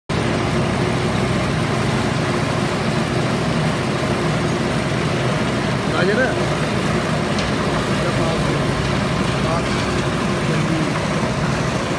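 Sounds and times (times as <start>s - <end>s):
concrete mixer engine running: 0.1s - 11.9s.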